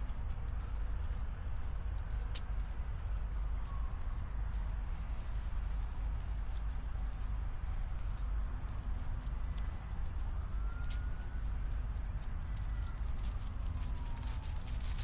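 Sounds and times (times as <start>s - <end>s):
footsteps on a path: 0.0s - 15.0s.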